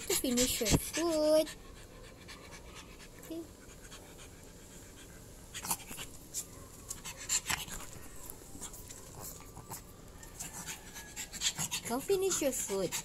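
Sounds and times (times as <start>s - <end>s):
dog breathing and panting: 0.0s - 13.0s.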